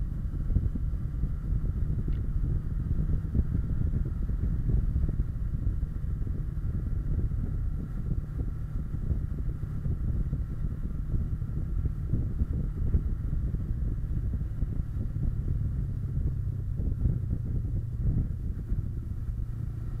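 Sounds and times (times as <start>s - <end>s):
motorcycle engine drone: 0.0s - 20.0s
wind rumbling on microphone: 0.0s - 20.0s.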